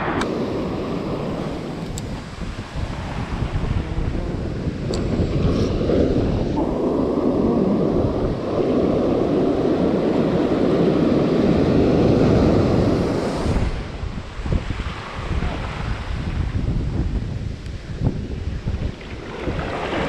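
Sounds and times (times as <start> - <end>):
sea water around boat: 0.0 - 20.0
wind rushing over microphone: 0.0 - 20.0.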